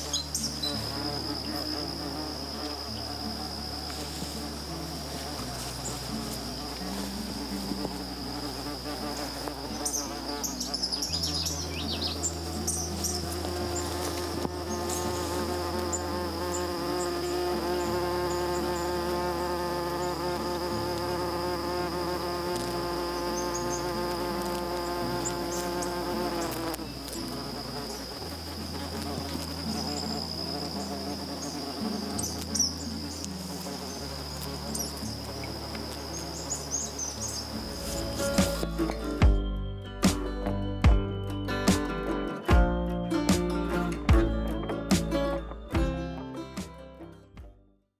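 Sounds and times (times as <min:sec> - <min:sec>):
flying insect buzzing: 0:00.0 - 0:39.4
crickets trilling: 0:00.0 - 0:45.6.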